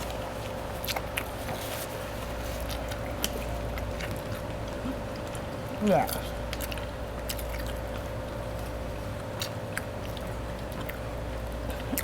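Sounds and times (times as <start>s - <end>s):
close chewing: 0.0s - 12.0s
faint steady hum: 0.0s - 12.0s.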